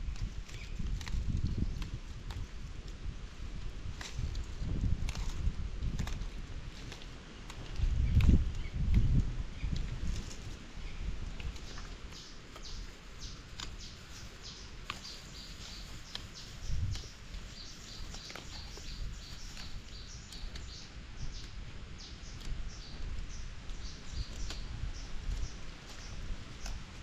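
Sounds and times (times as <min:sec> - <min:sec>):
small birds chirping: 0:00.1 - 0:02.7, 0:06.7 - 0:27.0.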